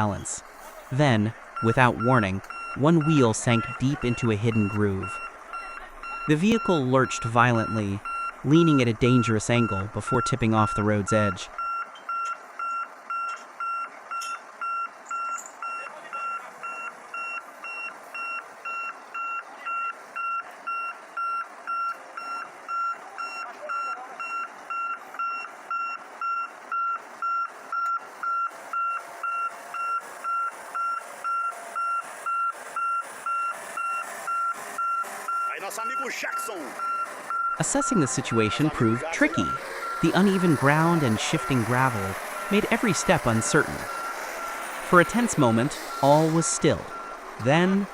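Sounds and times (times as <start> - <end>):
reversing alarm beeping: 0.0 - 47.9
steady background noise: 0.0 - 47.9.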